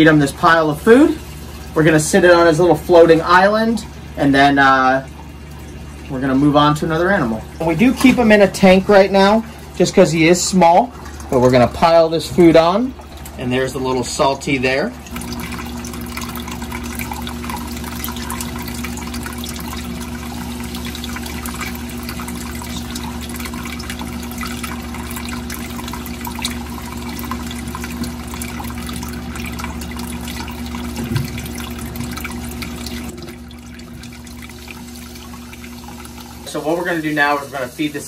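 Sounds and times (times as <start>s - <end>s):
water trickling and bubbling: 0.0s - 38.0s.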